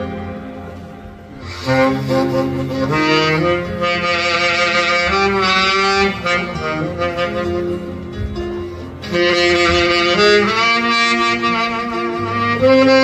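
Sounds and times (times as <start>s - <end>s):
recorded backing track: 0.0s - 13.0s
saxophone melody: 0.0s - 13.0s.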